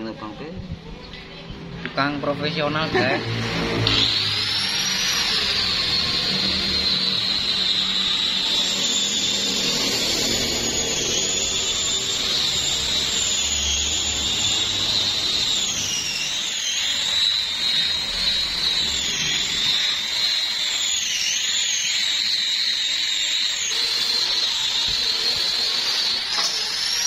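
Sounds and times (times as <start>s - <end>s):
power tool motor whine: 1.8s - 27.0s.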